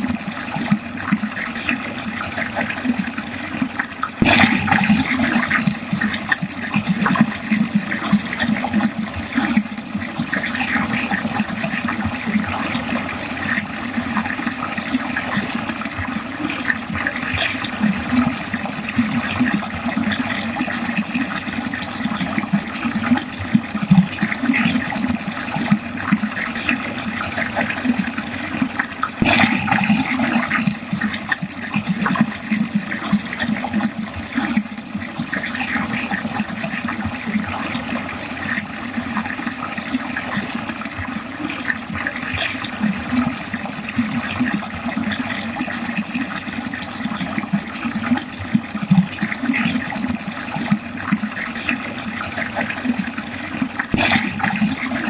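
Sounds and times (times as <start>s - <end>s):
water gurgling down drain: 0.0s - 55.0s.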